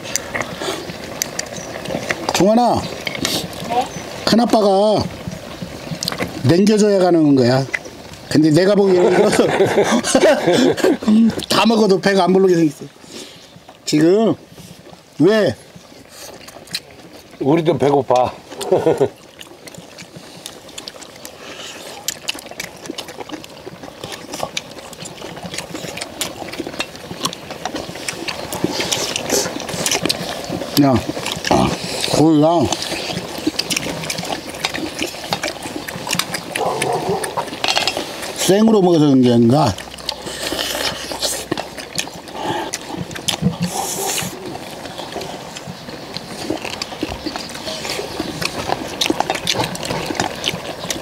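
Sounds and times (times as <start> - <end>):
men chewing and sucking meat: 0.0 - 51.0.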